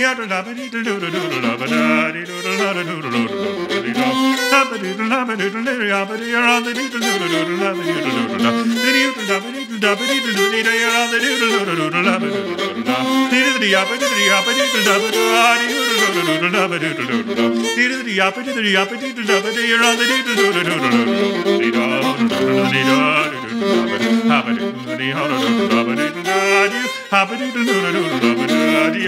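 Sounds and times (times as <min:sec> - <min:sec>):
fiddle playing a melody: 0:00.0 - 0:29.0.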